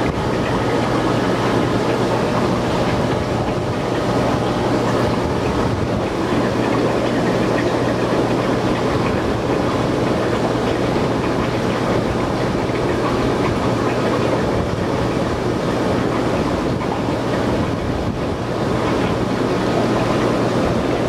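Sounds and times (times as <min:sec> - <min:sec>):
aeration bubbling: 0:00.0 - 0:21.0
air pump hum: 0:00.0 - 0:21.0.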